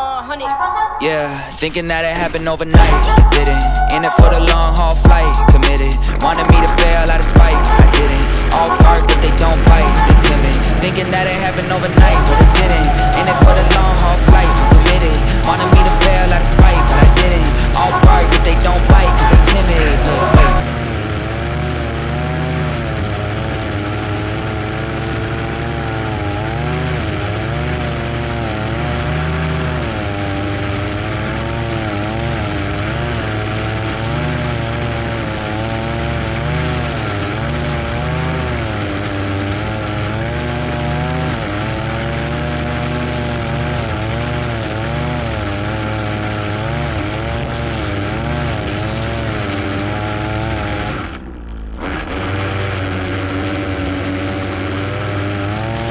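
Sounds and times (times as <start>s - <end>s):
lawn mower engine running: 1.0s - 55.9s.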